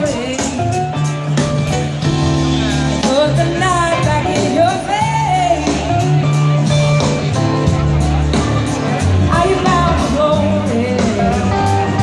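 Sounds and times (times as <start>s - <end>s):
live blues-rock band playing: 0.0s - 12.0s.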